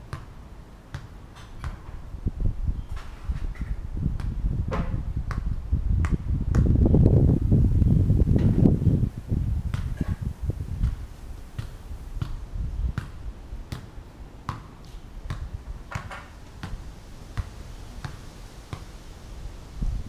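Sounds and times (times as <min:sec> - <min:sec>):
wind rumbling on microphone: 0:01.6 - 0:13.7, 0:15.1 - 0:20.0.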